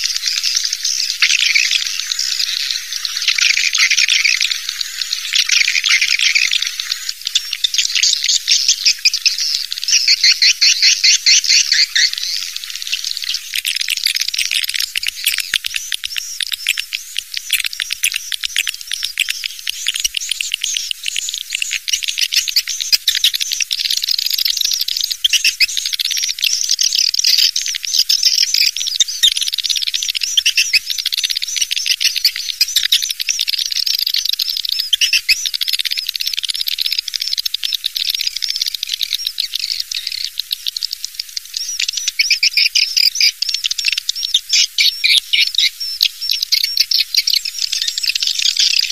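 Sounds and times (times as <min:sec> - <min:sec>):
swiftlets twittering: 0:00.0 - 0:48.9.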